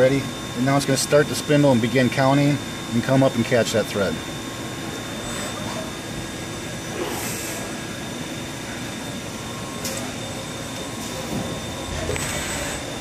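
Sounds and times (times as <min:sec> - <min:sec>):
lathe humming with high whine: 0:00.0 - 0:13.0.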